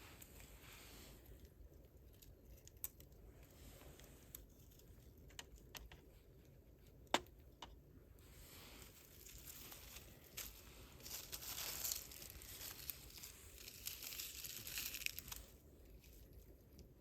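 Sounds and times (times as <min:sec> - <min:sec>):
soft crackling hiss: 0:00.0 - 0:17.0.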